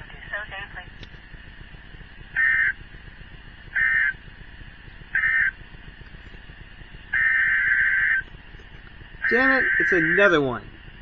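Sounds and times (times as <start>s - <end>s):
digital data bursts: 0.0s - 11.0s.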